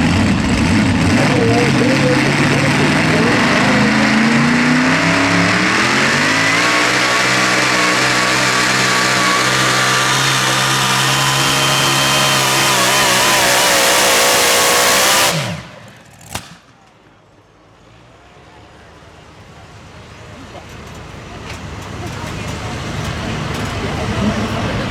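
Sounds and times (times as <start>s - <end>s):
pulling truck engine revving: 0.0s - 17.3s, 18.0s - 24.9s.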